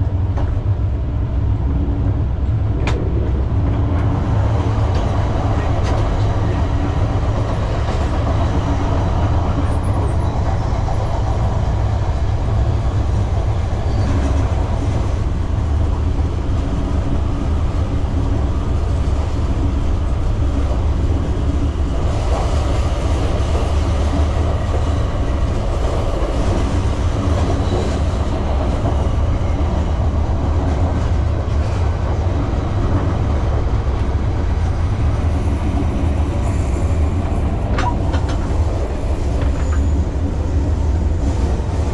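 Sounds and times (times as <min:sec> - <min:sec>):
train rumbling on track: 0:00.0 - 0:41.9.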